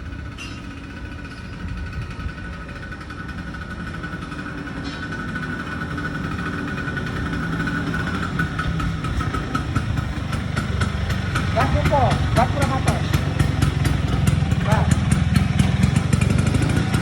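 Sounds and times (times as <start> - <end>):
scooter engine idling: 0.0 - 17.0.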